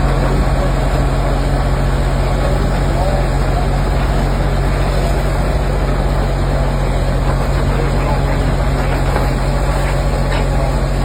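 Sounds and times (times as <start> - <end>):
heavy engine humming: 0.0 - 11.0.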